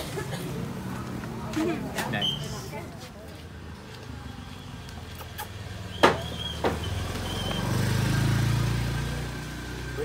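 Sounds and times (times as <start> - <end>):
motorbike passing: 0.0 - 10.0.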